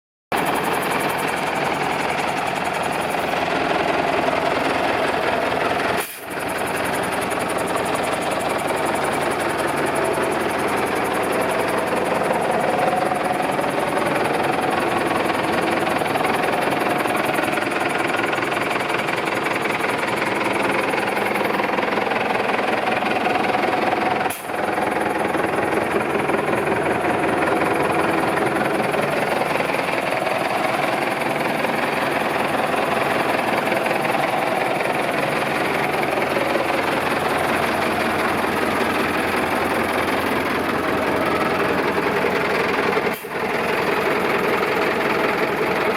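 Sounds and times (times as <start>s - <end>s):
tractor diesel engine running: 0.3s - 45.9s.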